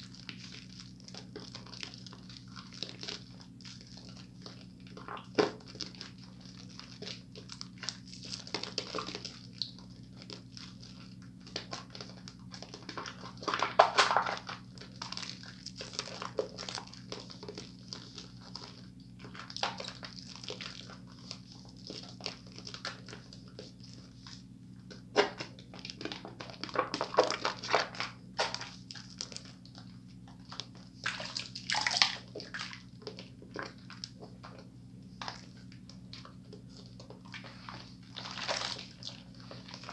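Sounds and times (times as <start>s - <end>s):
hands squelching soap lather: 0.0s - 39.9s.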